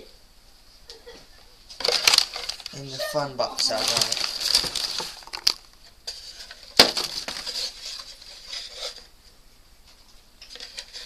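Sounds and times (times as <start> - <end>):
rustling: 0.6 - 11.0.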